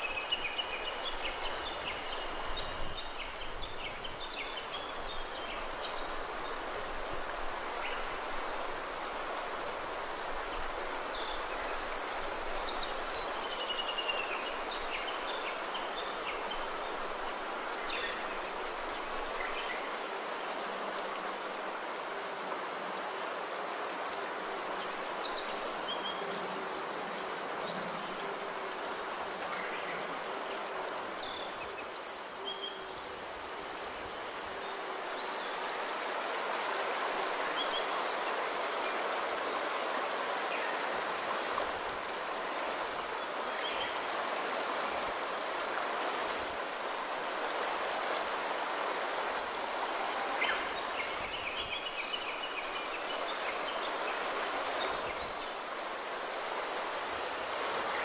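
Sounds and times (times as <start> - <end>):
stream rushing water: 0.0 - 58.0.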